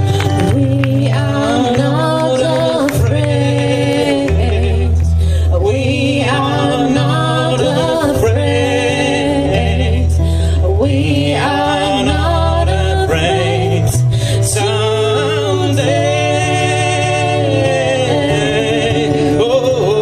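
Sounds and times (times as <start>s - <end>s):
low bass notes: 0.0s - 20.0s
man and woman singing together: 0.0s - 20.0s
strummed acoustic guitar: 0.0s - 20.0s.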